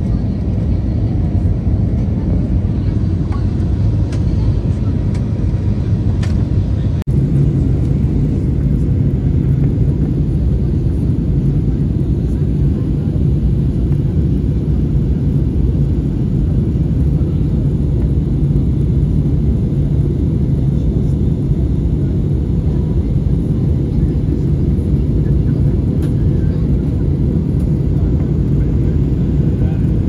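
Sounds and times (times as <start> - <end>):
jet engines and rushing air: 0.0 - 30.0.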